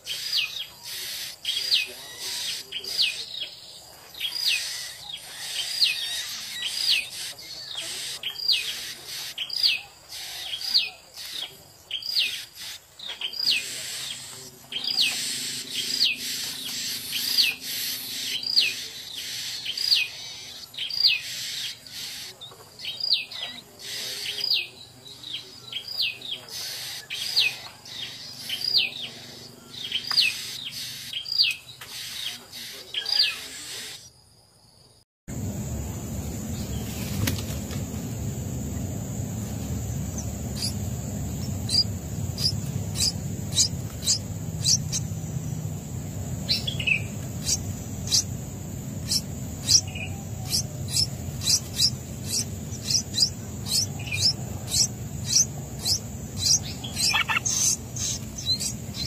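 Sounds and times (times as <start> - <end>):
songbird calling: 0.0 - 34.1, 35.4 - 59.0.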